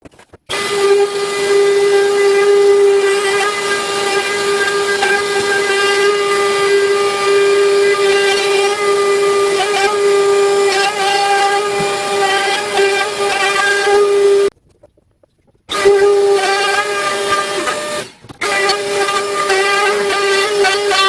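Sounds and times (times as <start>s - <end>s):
router motor whining: 0.5s - 14.5s, 15.7s - 21.0s.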